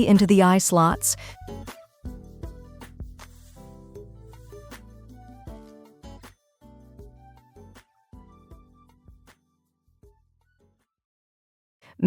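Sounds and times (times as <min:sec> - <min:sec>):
soft background music: 0:00.0 - 0:10.9.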